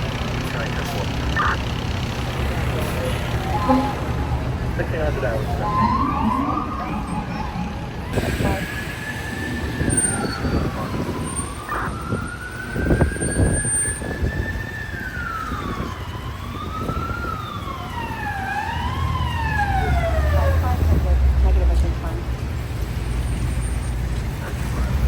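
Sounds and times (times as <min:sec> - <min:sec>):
fire engine siren wailing: 0:00.0 - 0:22.2
city street traffic: 0:00.0 - 0:25.0.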